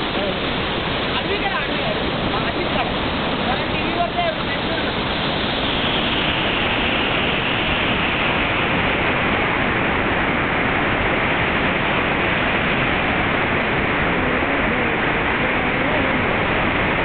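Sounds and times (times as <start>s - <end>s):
waterfall rush: 0.0s - 17.0s.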